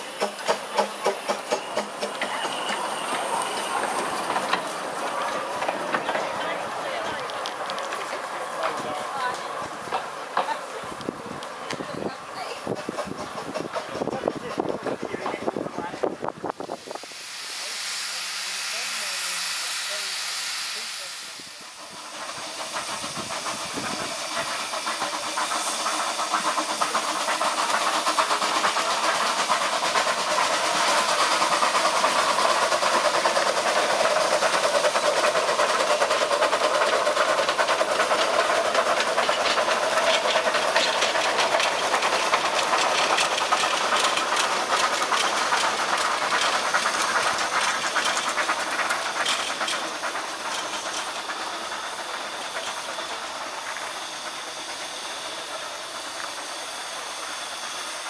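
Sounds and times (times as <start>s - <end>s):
wheels clicking over rail joints: 0.0s - 16.0s, 22.1s - 58.0s
steam locomotive hissing: 0.0s - 58.0s.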